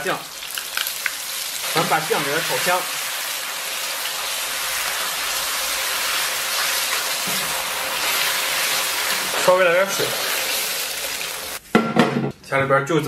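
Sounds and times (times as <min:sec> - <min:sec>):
oil sizzling in a wok: 0:00.0 - 0:11.7.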